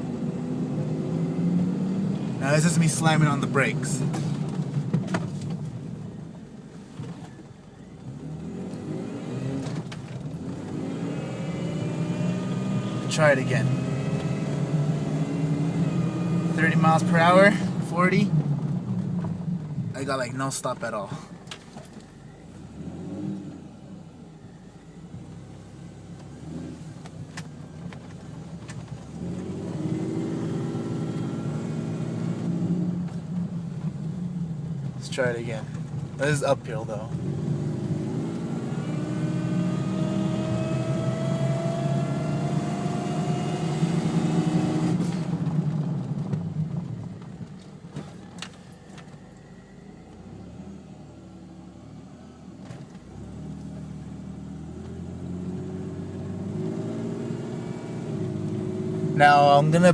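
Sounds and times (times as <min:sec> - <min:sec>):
road noise: 0:00.0 - 0:59.9
truck engine accelerating: 0:00.0 - 0:59.9.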